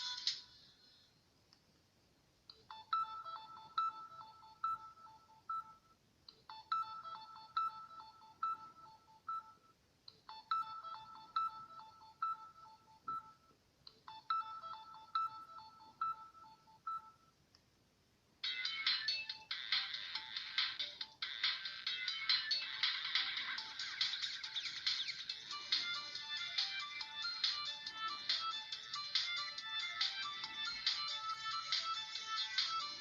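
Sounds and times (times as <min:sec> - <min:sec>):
phone ringtone beeps: 0:02.7 - 0:09.7, 0:10.3 - 0:13.5, 0:14.1 - 0:17.3, 0:18.4 - 0:33.0.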